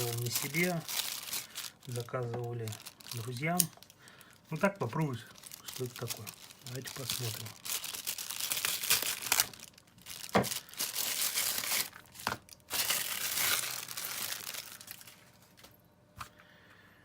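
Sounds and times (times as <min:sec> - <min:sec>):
packaging crinkling and tearing: 0:00.0 - 0:15.6.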